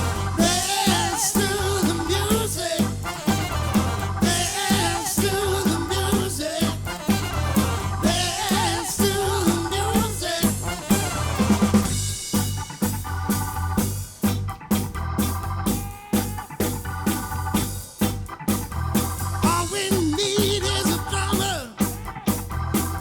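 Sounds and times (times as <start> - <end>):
bass guitar: 0.0 - 23.0
drum kit beat: 0.0 - 23.0
held organ chords: 0.0 - 23.0.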